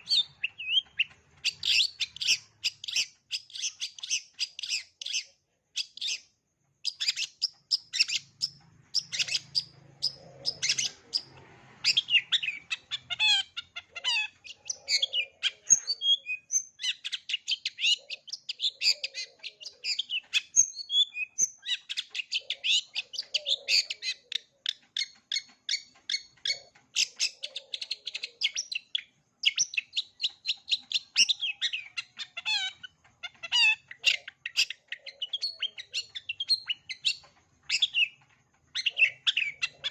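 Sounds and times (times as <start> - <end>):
shrike singing trills: 0.0 - 39.9.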